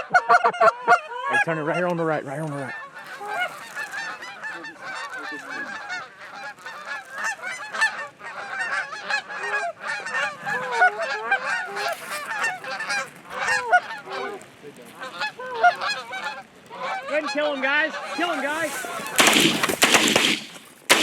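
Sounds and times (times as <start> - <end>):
geese honking and clucking: 0.0 - 21.0.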